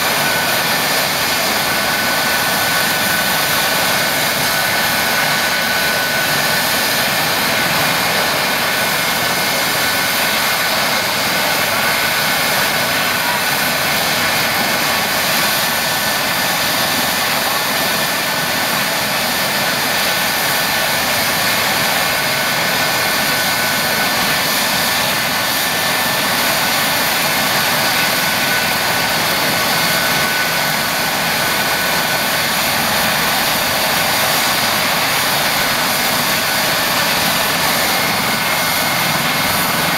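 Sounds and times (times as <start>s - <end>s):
helicopter rotor rushing: 0.0s - 39.9s
helicopter turbine whine: 0.0s - 39.9s.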